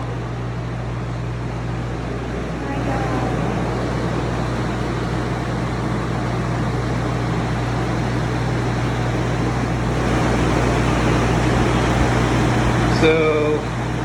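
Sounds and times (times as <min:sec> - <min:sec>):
drying fans rushing air: 0:00.0 - 0:14.0.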